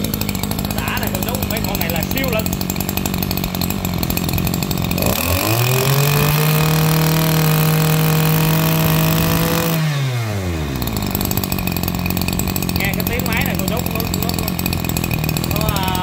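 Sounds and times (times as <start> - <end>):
brush cutter engine revving: 0.0 - 16.0.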